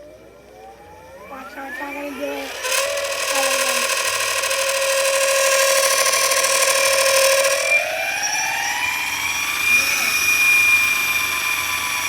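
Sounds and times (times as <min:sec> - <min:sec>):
electric skateboard motors whining: 0:00.1 - 0:12.0.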